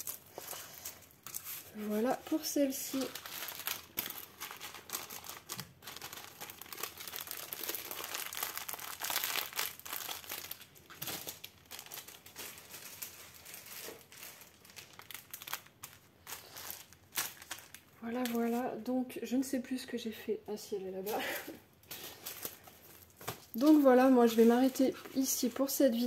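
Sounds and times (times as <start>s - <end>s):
plastic packaging crinkling: 0.0s - 18.8s, 21.0s - 26.0s.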